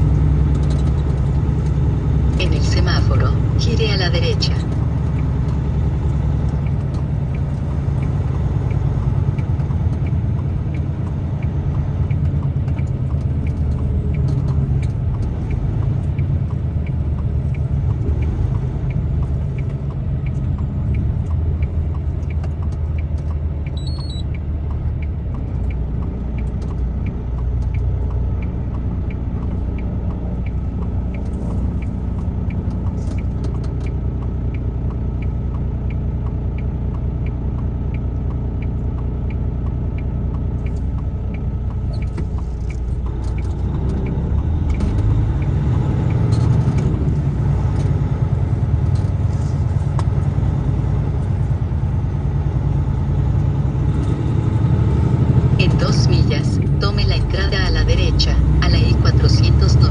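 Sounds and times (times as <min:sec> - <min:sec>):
light regular ticking: 0:00.0 - 0:59.9
truck engine and road noise: 0:00.0 - 0:59.9.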